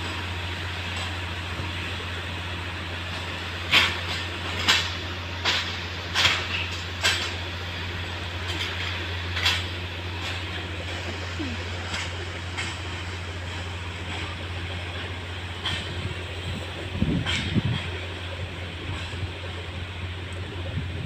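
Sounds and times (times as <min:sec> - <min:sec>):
machine engine hum: 0:00.0 - 0:21.0.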